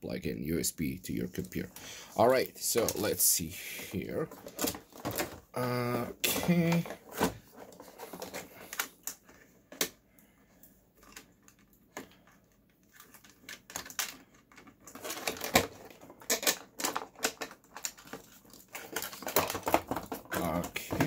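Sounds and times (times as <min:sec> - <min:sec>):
wrapping rustling and crinkling: 0:01.1 - 0:09.5, 0:10.4 - 0:21.0.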